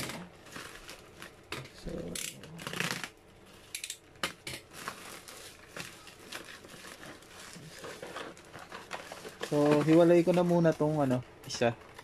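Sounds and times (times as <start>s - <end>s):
plastic and bubble wrap crinkling: 0.0s - 12.0s.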